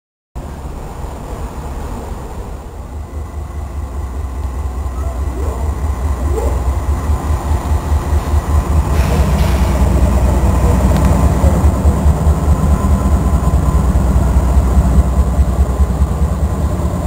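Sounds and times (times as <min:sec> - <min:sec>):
diesel locomotives rumbling: 0:00.4 - 0:17.0.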